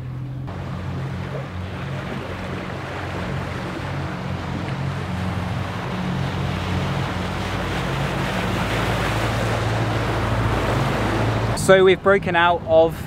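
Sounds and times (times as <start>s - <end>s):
motorboat engine running: 0.0s - 13.0s
water splashing along hull: 0.0s - 13.0s.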